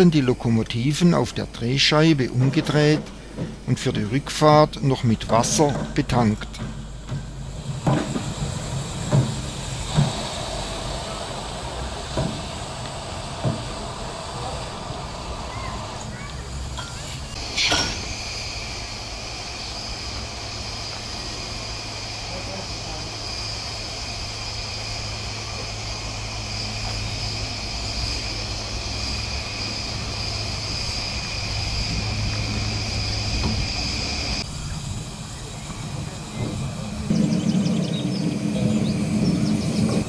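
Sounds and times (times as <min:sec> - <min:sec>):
high even whine: 0:00.0 - 0:40.0
low hum: 0:00.0 - 0:40.0
steady steam hiss: 0:00.0 - 0:40.0.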